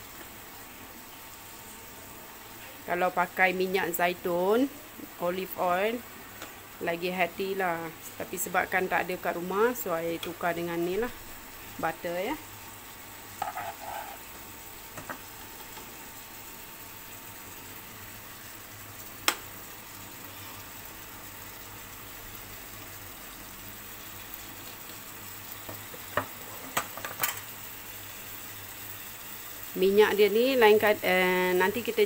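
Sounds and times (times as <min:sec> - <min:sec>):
chicken sizzling in a pan: 0:00.0 - 0:32.0.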